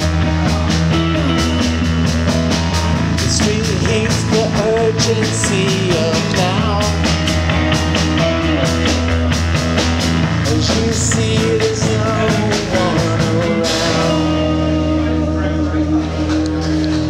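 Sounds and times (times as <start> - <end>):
drum beat: 0.0 - 14.6
electric guitar: 0.0 - 17.0
keyboard: 0.0 - 17.0.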